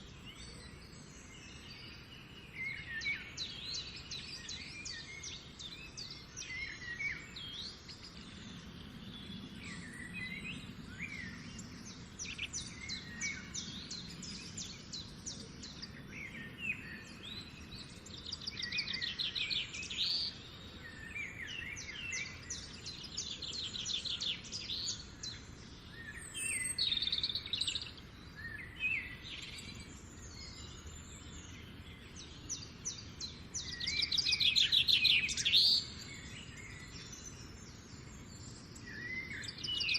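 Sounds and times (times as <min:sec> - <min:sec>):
outdoor background hiss: 0:00.0 - 0:39.9
songbirds trilling and chirping: 0:00.0 - 0:39.9.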